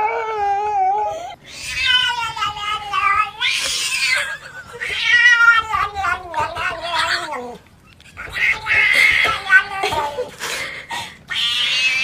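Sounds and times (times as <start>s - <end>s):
cat yowling: 0.0s - 10.3s, 11.3s - 12.0s
dog whining: 0.0s - 10.3s.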